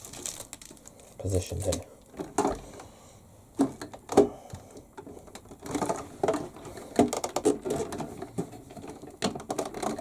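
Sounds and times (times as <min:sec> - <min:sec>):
plastic parts knocking and rattling: 0:00.0 - 0:02.9, 0:03.6 - 0:10.0.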